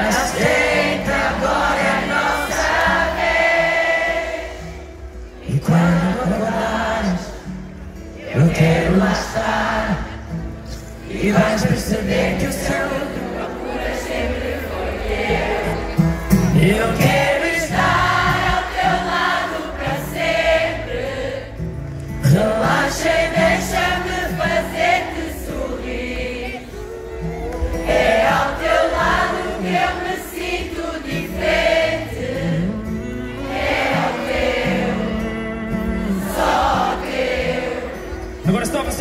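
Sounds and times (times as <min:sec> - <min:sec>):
voices singing together: 0:00.0 - 0:38.4.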